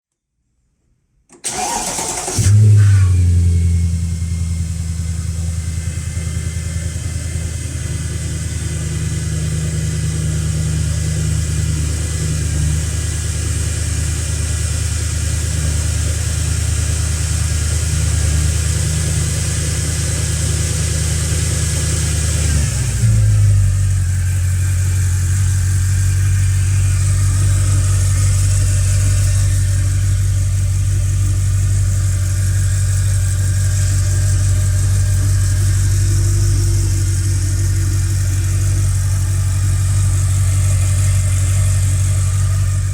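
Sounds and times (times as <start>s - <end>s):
car engine starting and idling: 1.3s - 42.9s.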